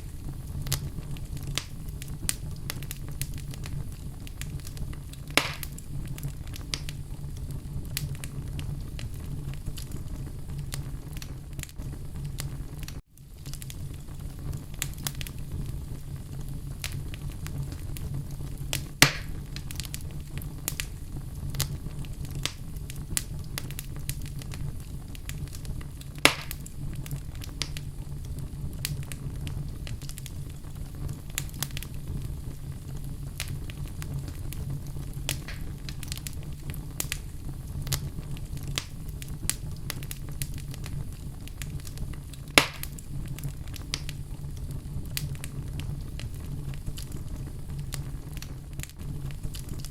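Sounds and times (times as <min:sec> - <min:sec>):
fire crackling and popping: 0:00.0 - 0:49.9
fire rumbling: 0:00.0 - 0:49.9.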